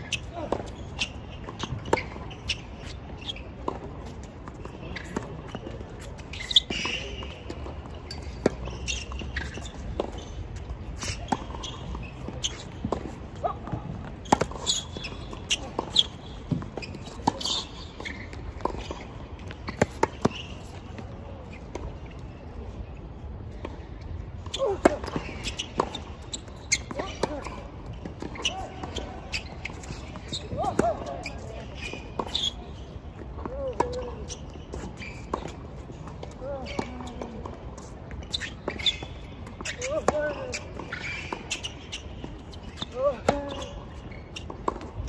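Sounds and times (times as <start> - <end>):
rackets striking tennis ball: 0.0 - 21.9, 24.4 - 45.0
tennis ball bouncing: 0.0 - 21.9, 24.4 - 32.5, 33.2 - 45.0.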